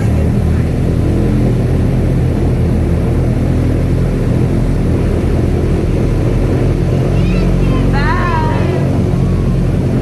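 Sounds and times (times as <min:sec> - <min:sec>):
airboat engine and propeller drone: 0:00.0 - 0:10.0.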